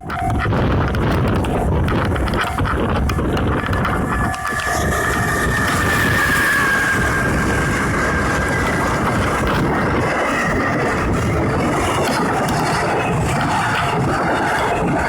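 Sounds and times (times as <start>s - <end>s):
faint high whine: 0.0s - 15.0s
train wheels rumbling on rail: 0.0s - 15.0s.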